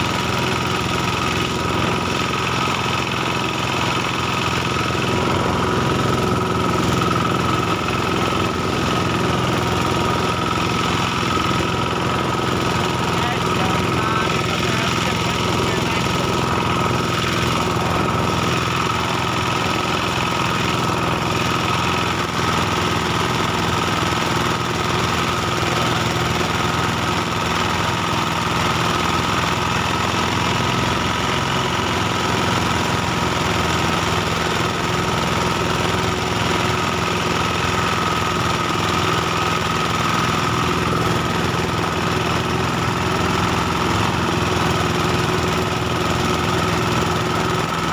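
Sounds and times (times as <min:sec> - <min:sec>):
small engine running: 0:00.0 - 0:47.9.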